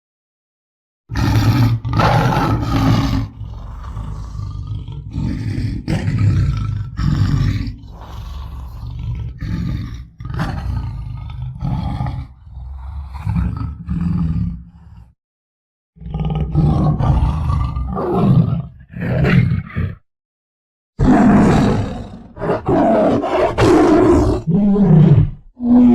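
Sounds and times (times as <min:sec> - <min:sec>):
tiger roaring and growling: 0:01.1 - 0:15.2, 0:16.0 - 0:20.0, 0:21.0 - 0:25.9.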